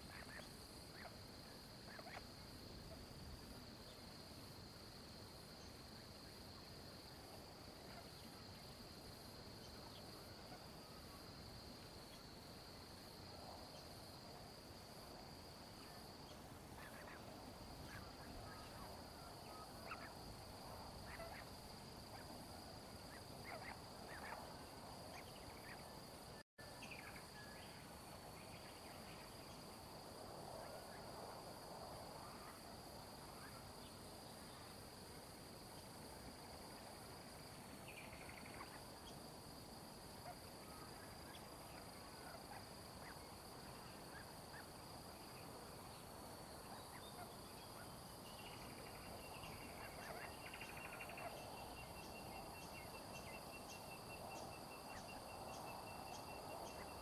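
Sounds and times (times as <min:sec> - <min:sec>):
lower insect tone: 0:00.0 - 0:57.0.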